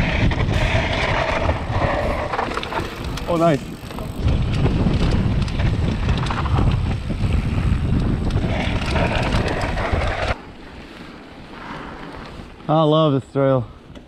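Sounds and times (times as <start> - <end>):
wind buffeting camera: 0.0 - 12.7
tyres crunching on gravel: 0.1 - 12.7.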